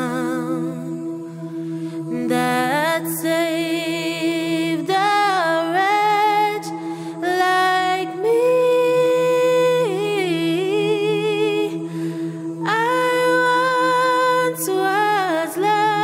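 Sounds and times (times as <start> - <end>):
steady held drone: 0.0 - 16.0
woman singing wordless melody: 0.0 - 16.0.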